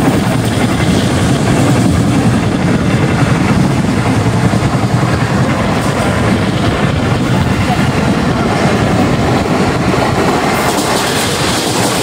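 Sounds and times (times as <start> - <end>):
train running rumble: 0.0 - 12.0
wheel and rail hiss: 0.0 - 12.0.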